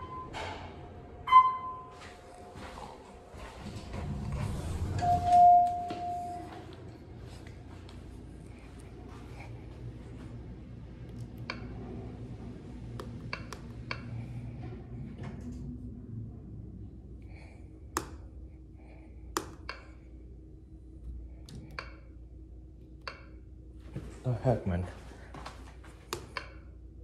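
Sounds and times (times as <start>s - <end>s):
elevator low hum: 0.0s - 27.0s.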